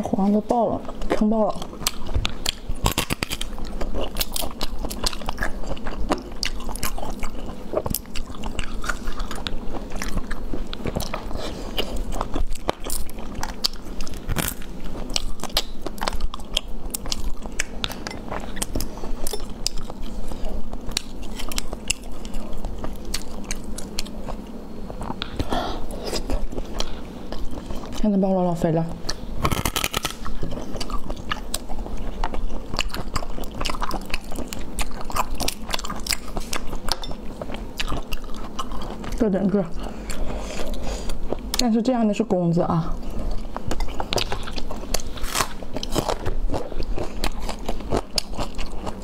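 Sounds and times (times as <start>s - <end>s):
person chewing soft food: 0.0s - 28.1s, 29.0s - 41.7s, 42.9s - 49.0s.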